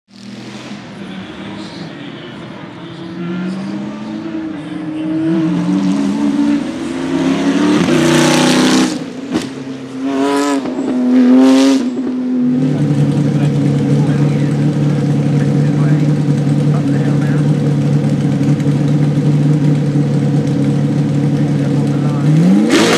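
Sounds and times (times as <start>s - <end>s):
race car engine driving past: 0.1s - 22.9s
engine revving up: 2.8s - 22.9s.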